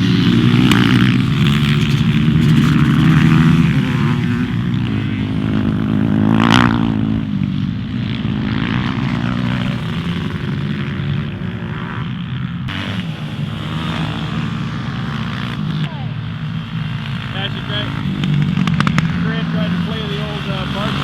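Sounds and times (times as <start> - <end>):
racing motorcycle engines: 0.0 - 21.0.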